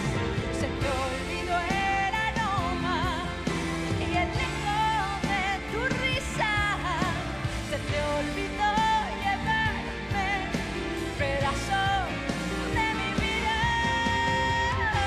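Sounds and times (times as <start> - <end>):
piano and band: 0.0 - 15.0
woman singing pop song: 0.0 - 15.0.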